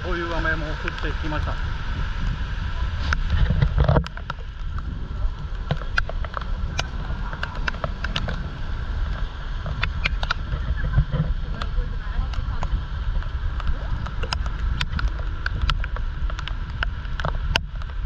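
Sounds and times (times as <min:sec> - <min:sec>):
rain taps: 0:00.0 - 0:18.0
wind buffeting microphone: 0:00.0 - 0:18.0.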